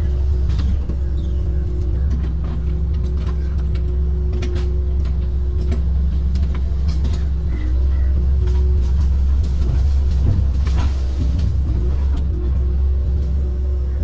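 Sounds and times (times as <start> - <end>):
excavator diesel engine under load: 0.0 - 14.0
steady whine: 0.0 - 14.0.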